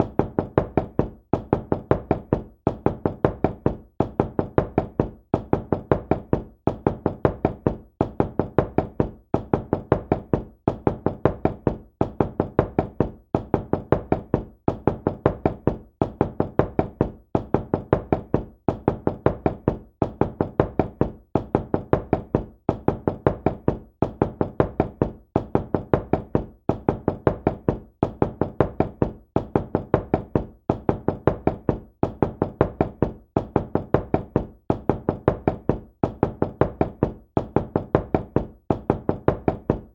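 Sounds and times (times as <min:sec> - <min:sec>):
knuckles knocking on a door: 0:00.0 - 0:39.9.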